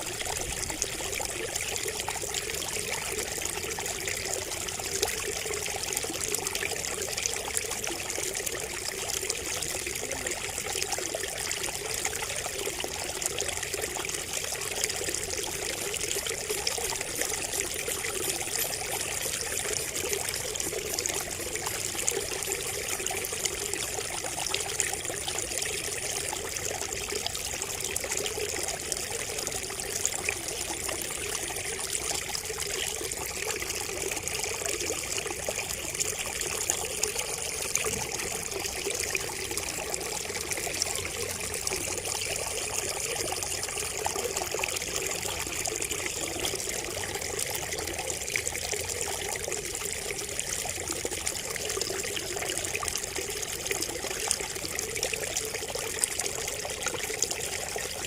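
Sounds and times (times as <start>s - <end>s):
water trickling from spout: 0.0s - 58.0s.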